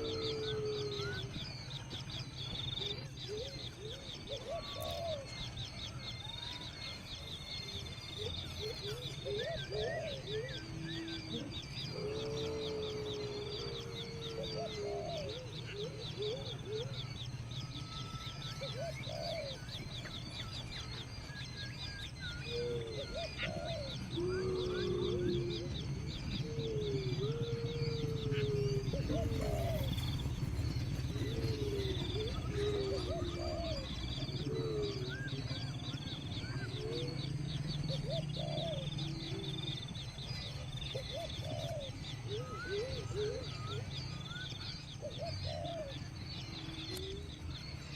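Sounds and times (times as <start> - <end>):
low gliding bird calls: 0.0 - 47.9.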